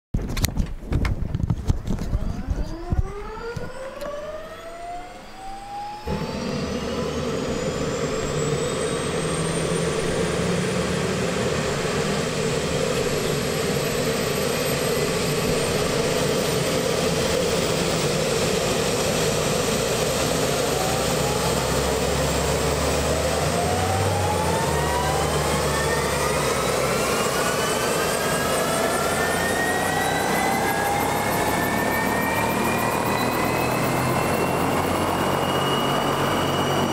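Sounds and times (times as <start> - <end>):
turbine starter whine: 1.0 - 36.9
helicopter turbine rush: 1.6 - 36.9
engines spooling up: 2.1 - 36.9.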